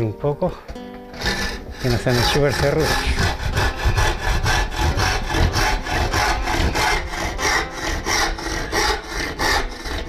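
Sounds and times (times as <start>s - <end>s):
handsaw cutting wood: 1.1s - 10.0s.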